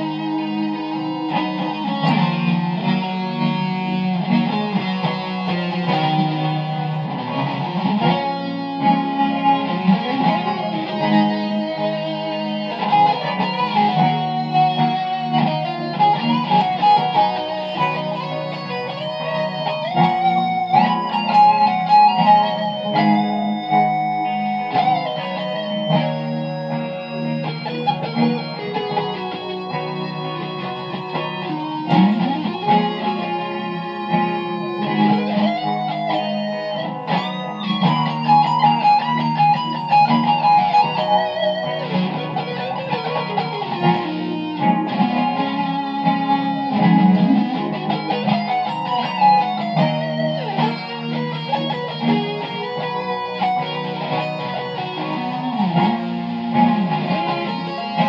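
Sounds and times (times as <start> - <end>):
electric guitar lead line: 0.0 - 58.0
sustained guitar chords: 0.0 - 58.0.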